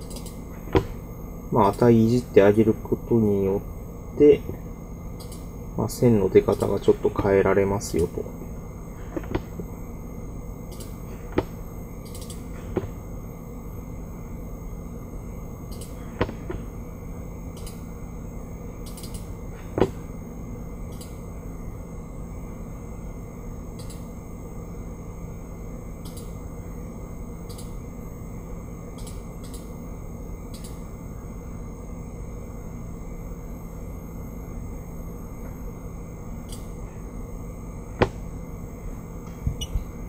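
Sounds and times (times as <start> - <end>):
low background hum: 0.0 - 40.0.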